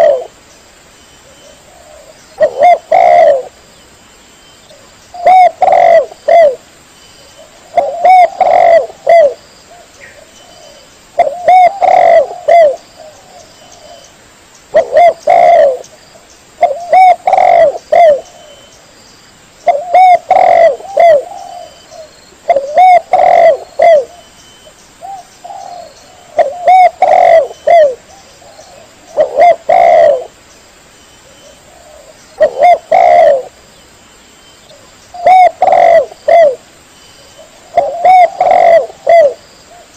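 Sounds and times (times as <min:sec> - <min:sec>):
dove cooing: 0:00.0 - 0:00.4, 0:01.2 - 0:03.6, 0:04.7 - 0:06.6, 0:07.3 - 0:14.1, 0:14.7 - 0:15.9, 0:16.6 - 0:18.7, 0:19.6 - 0:24.3, 0:25.0 - 0:30.4, 0:31.2 - 0:33.6, 0:34.7 - 0:39.9.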